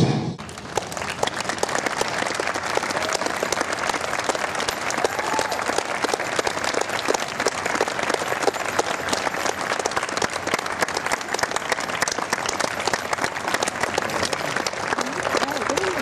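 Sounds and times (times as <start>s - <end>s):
audience applauding: 0.4s - 16.0s.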